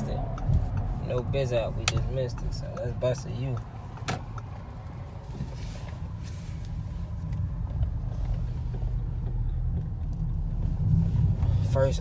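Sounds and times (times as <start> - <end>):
car engine rumbling: 0.0 - 12.0
road noise inside car: 0.0 - 12.0.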